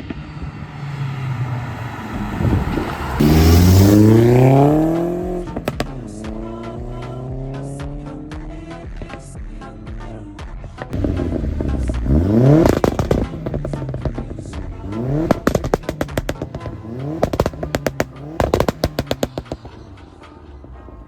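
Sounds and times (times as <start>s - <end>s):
car engine revving: 0.0s - 8.7s, 10.9s - 21.0s
exhaust pops and crackles: 1.9s - 9.4s, 10.9s - 20.8s.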